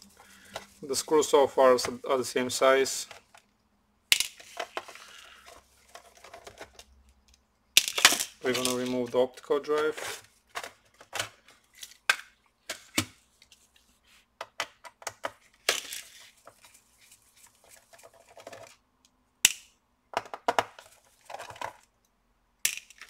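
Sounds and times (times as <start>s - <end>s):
hands handling plastic case and screws: 0.1s - 2.0s, 2.9s - 18.8s, 20.1s - 23.0s.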